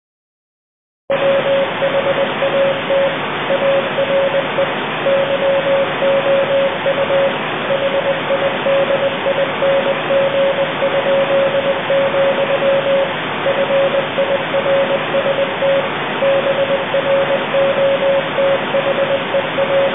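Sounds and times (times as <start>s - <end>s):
steady mid-pitched tone: 1.1s - 19.9s
television static hiss: 1.1s - 19.9s.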